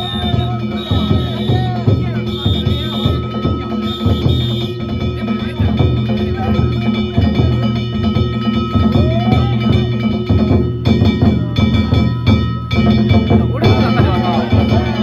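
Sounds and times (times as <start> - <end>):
hand-struck gongs ringing: 0.0 - 15.0
taiko drum beating: 0.0 - 15.0.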